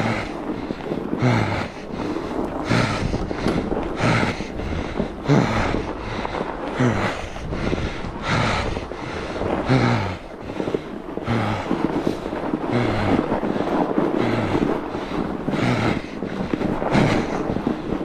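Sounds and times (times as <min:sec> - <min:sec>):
bike tyre noise on snow: 0:00.0 - 0:18.0
rider heavy breathing: 0:00.0 - 0:18.0
wind on microphone: 0:00.0 - 0:18.0.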